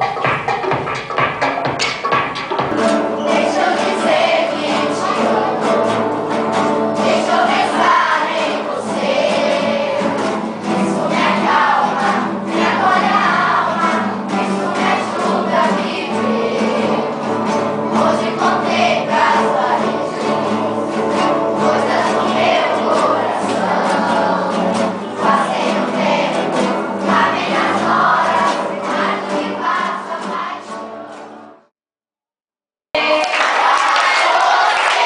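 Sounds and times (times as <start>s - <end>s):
instrumental accompaniment: 0.0s - 31.6s
choir singing: 2.8s - 31.7s, 33.0s - 35.0s.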